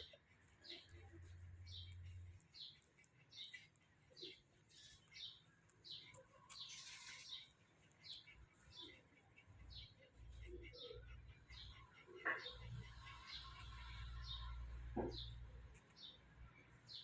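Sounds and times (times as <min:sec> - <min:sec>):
baby birds chirping: 0:00.0 - 0:17.0.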